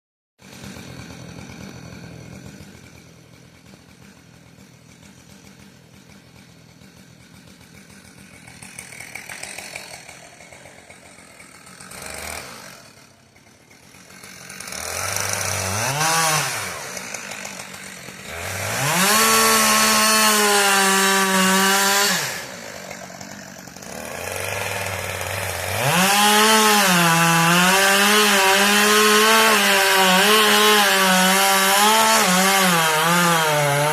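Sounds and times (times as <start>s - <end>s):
chainsaw revving and cutting wood: 0.4s - 33.9s.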